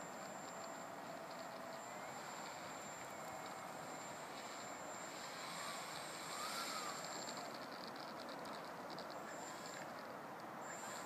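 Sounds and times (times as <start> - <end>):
distant model airplane motor: 0.0 - 11.0.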